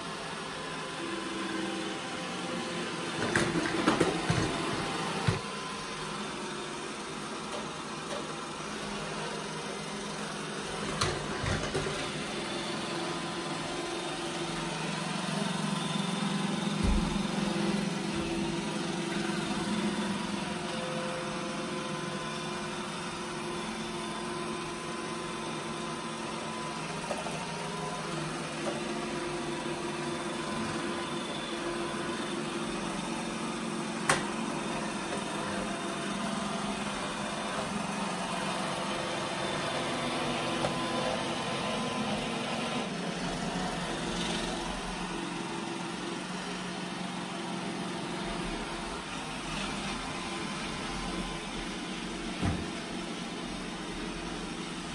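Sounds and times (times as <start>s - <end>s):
robot vacuum humming: 0.0s - 54.9s.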